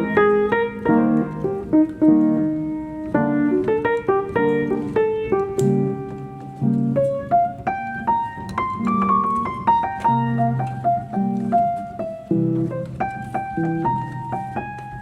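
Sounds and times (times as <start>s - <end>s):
piano melody over bass chords: 0.0s - 15.0s.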